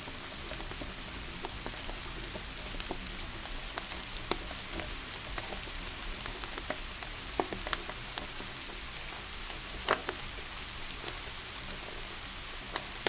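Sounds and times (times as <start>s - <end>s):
rain hiss: 0.0s - 13.0s
wood fire crackling: 0.0s - 13.0s.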